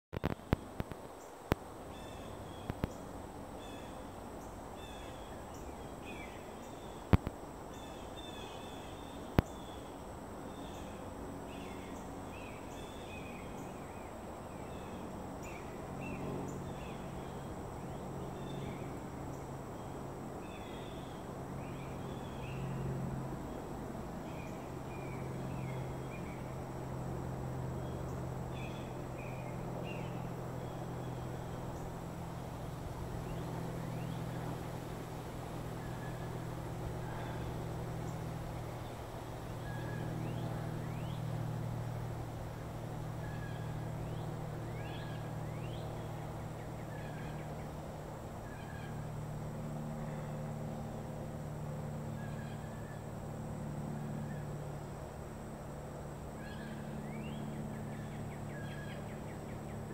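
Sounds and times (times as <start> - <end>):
low motor hum: 0.0 - 59.9.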